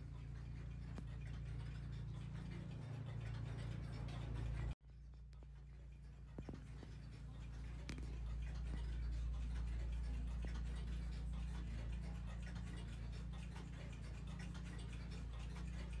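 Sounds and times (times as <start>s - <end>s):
mechanical clocks ticking: 0.0s - 16.0s
steady low hum: 0.0s - 16.0s.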